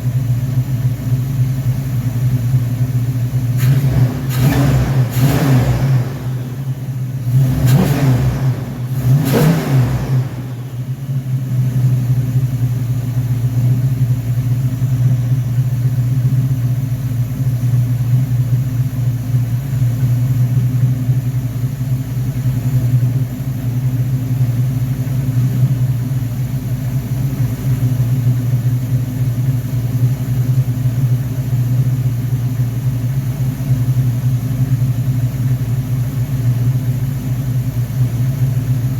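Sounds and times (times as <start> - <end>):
car engine revving and idling: 0.0 - 38.9.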